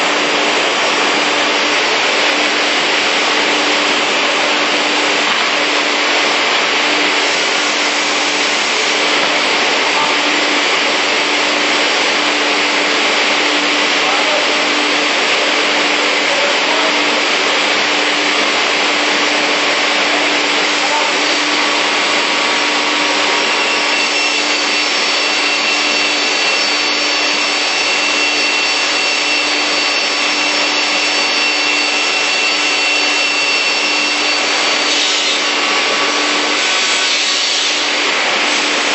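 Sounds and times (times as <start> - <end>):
beam saw rushing noise: 0.0 - 38.9
thin steady whine: 0.0 - 38.9.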